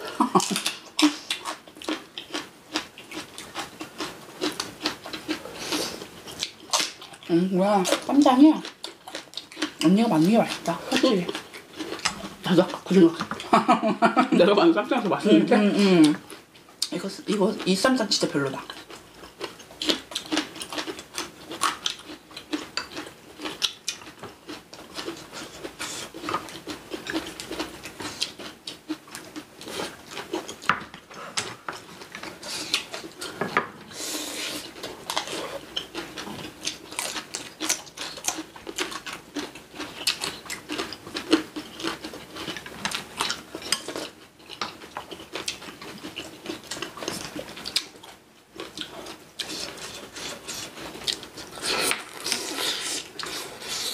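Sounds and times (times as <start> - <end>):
chewing: 0.1 - 13.6, 16.0 - 53.9.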